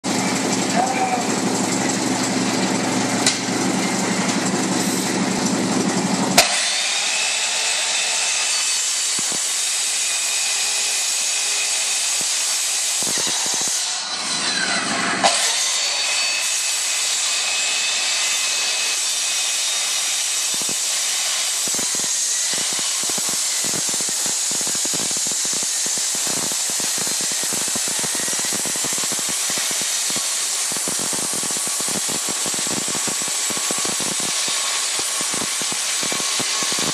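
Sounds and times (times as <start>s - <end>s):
power saw cutting sheet metal: 0.0s - 36.9s.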